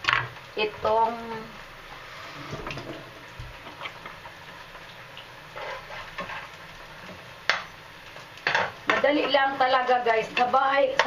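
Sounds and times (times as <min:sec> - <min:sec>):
patties sizzling in a frying pan: 0:00.0 - 0:11.0.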